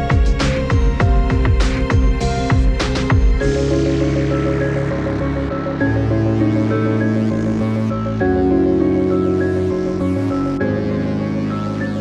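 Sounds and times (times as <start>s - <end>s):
pulsing low beat: 0.0s - 12.0s
synth chords: 0.0s - 12.0s.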